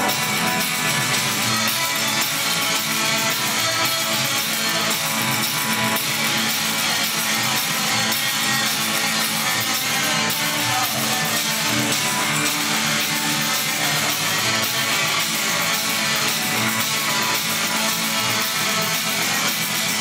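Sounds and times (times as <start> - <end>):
strummed guitar: 0.0 - 20.0.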